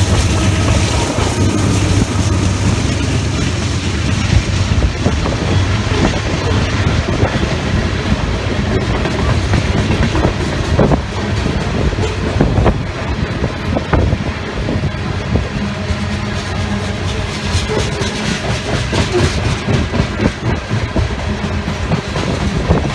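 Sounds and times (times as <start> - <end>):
diesel locomotive drone: 0.0 - 22.9
train wheels clacking over rail joints: 0.0 - 22.9
wind on microphone: 0.0 - 22.9.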